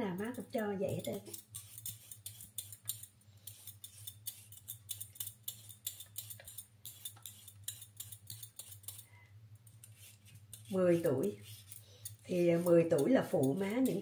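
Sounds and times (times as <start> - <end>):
blade scraping carrot: 0.3 - 9.0, 9.8 - 14.0.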